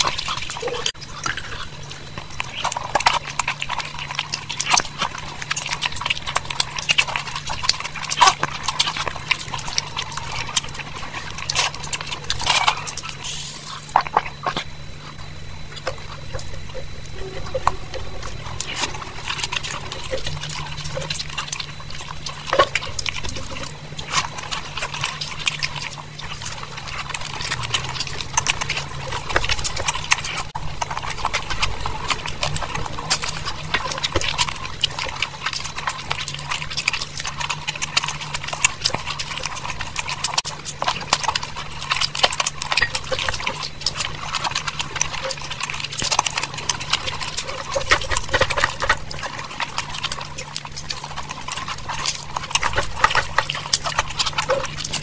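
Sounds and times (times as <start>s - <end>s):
rice squishing mixed by hand: 0.0s - 55.0s
wet chewing and lip-smacking: 0.0s - 55.0s.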